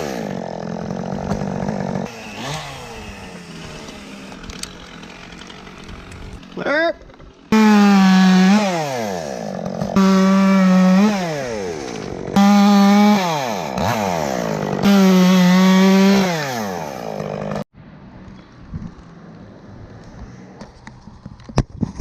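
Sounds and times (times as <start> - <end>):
chainsaw revving: 0.0 - 17.7.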